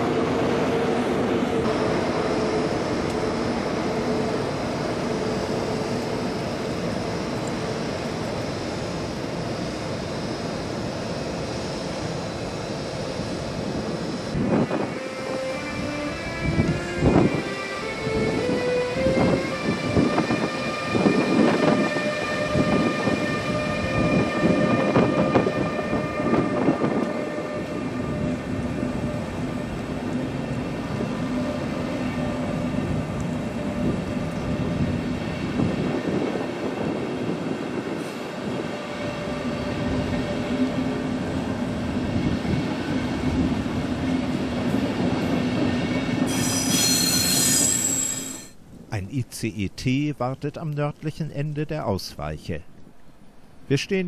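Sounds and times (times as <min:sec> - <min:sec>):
train rolling past: 0:00.0 - 0:49.4.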